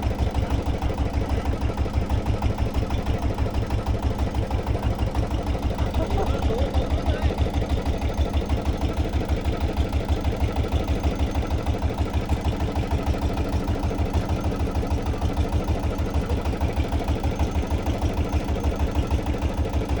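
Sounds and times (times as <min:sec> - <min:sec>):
boat engine thudding: 0:00.0 - 0:20.0.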